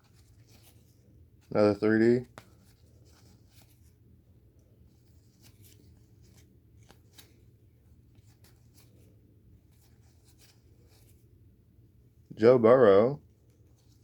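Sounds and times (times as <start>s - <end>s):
trading cards being handled: 0.0s - 11.6s, 12.5s - 14.0s.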